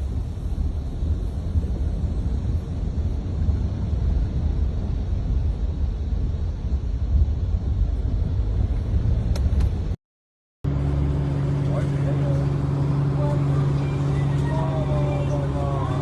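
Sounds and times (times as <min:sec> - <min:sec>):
low rumble: 0:00.0 - 0:10.0, 0:10.6 - 0:16.0.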